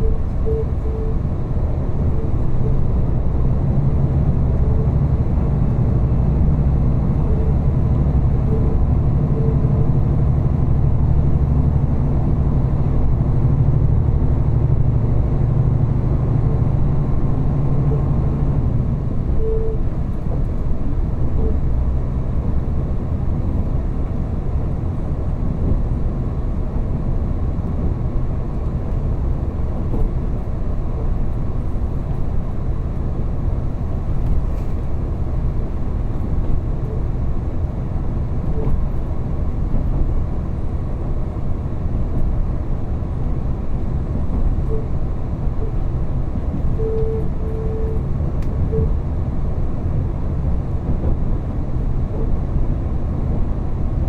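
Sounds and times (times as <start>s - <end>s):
engine low drone: 0.0s - 54.0s
wheels rumbling on rail: 0.0s - 54.0s.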